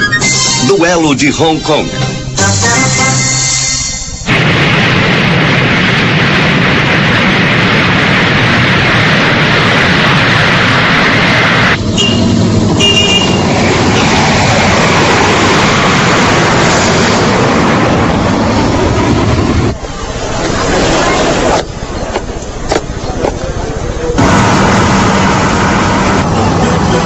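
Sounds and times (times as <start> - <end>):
vehicle engine rushing noise: 4.3 - 27.0.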